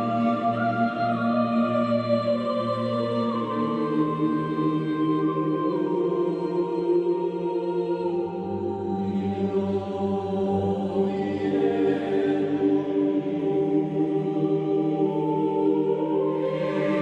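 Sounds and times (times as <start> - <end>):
choral chant over drone: 0.0 - 17.0.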